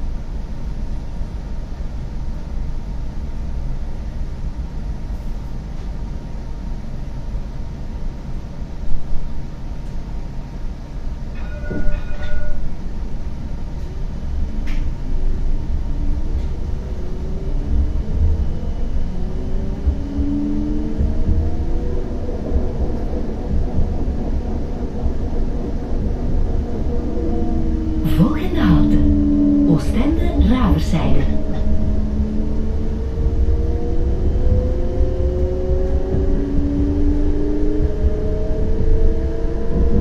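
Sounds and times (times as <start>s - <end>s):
tram rumbling on rails: 0.0s - 40.0s.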